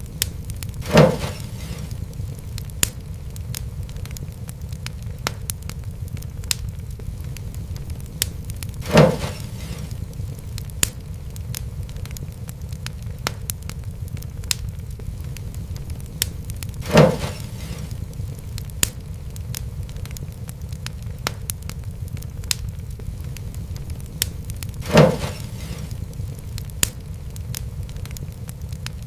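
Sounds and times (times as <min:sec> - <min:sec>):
loud fire pops: 0:00.0 - 0:29.0
wood fire crackling: 0:00.0 - 0:29.0.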